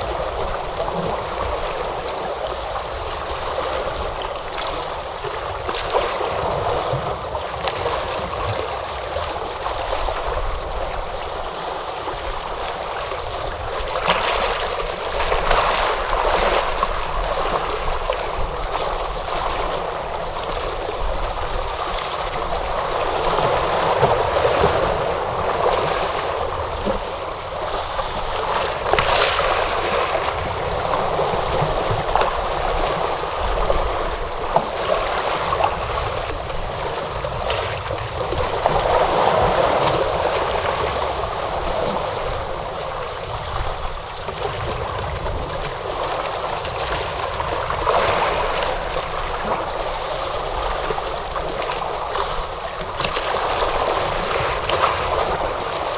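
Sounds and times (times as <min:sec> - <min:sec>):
ocean waves washing onto shore: 0:00.0 - 0:55.9.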